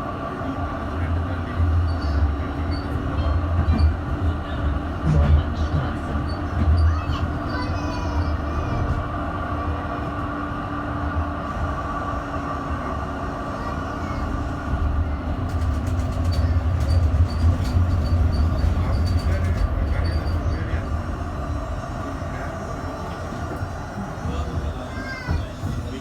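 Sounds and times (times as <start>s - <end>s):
tram rumbling on track: 0.0s - 26.0s.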